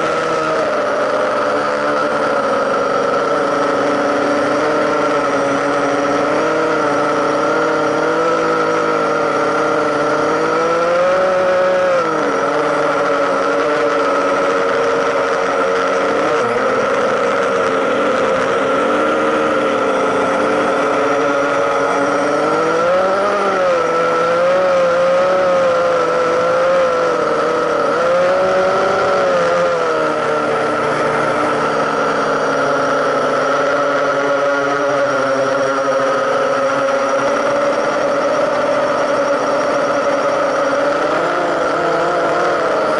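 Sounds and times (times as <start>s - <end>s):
drone motors whining: 0.0s - 42.9s.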